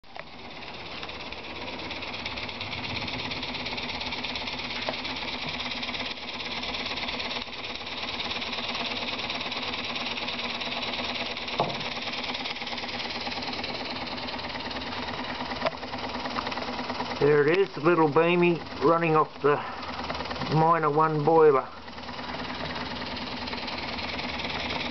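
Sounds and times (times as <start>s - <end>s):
model steam engine beating: 0.1s - 24.9s.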